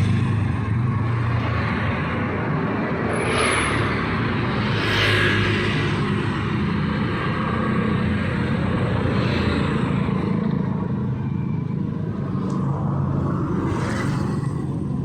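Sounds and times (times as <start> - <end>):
traffic engines droning: 0.0 - 15.0
vehicles passing close by: 0.0 - 15.0.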